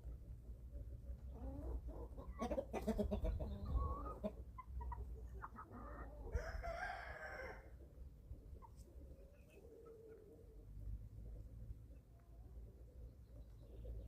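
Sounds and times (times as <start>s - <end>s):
chickens clucking and calling: 0.0s - 14.0s.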